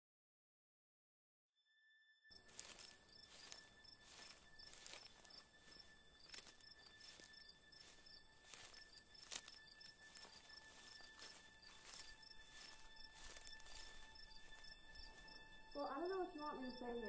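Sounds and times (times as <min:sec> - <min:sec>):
insect chirp: 0:02.3 - 0:17.0
insects chirring: 0:02.3 - 0:17.0.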